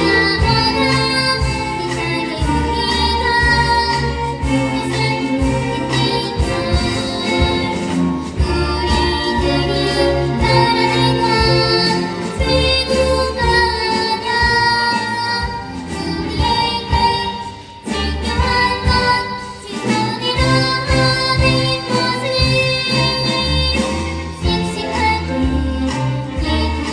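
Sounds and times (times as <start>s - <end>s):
children's choir singing: 0.0s - 26.9s
instrumental accompaniment with beat: 0.0s - 26.9s.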